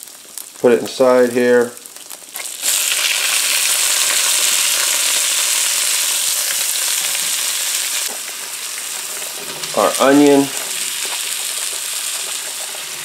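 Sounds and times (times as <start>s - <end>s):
peppers sizzling in hot oil: 0.0s - 13.0s.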